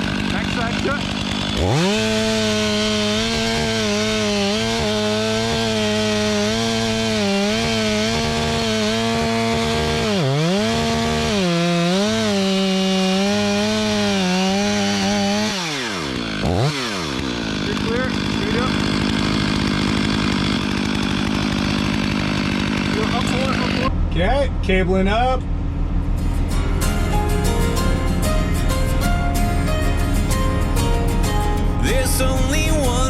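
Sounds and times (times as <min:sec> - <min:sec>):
chainsaw cutting tree trunk: 0:00.0 - 0:23.9, 0:27.1 - 0:33.0.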